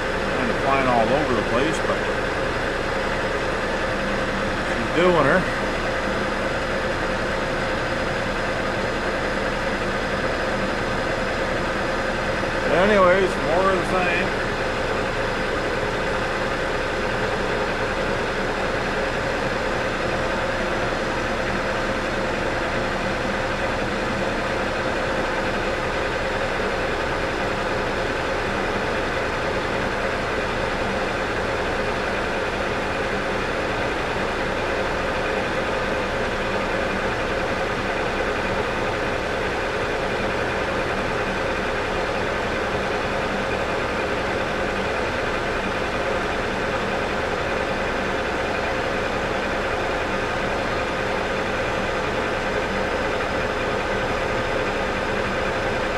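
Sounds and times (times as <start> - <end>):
lathe machine hum: 0.0 - 55.9.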